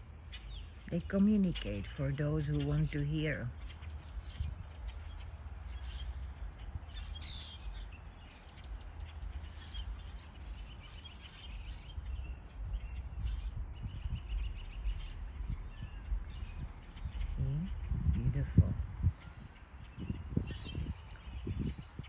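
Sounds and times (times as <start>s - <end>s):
birds chirping and calling: 0.0s - 22.0s
rapid bird trills: 0.0s - 22.0s
steady low rumble: 0.0s - 22.0s.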